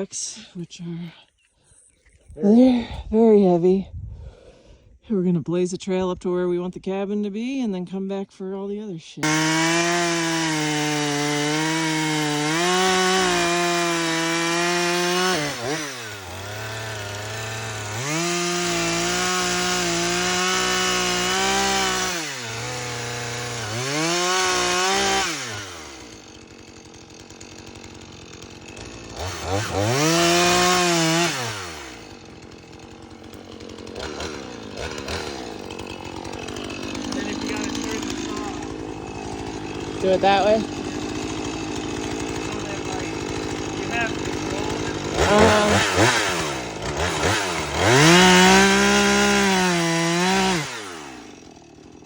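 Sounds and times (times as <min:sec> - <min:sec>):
chainsaw cutting brush: 0:09.2 - 0:52.0.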